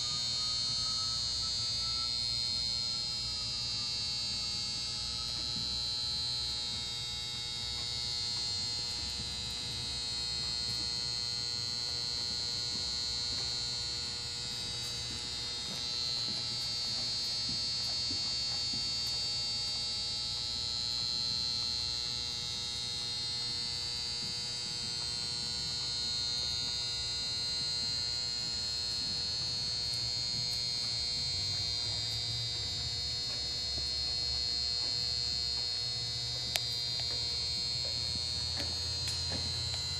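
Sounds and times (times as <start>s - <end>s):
steady electrical hum and buzz: 0.0s - 39.9s.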